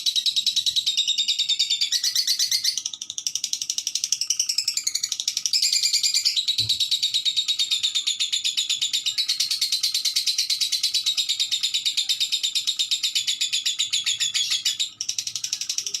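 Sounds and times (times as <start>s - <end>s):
lovebird chattering: 0.1s - 16.0s.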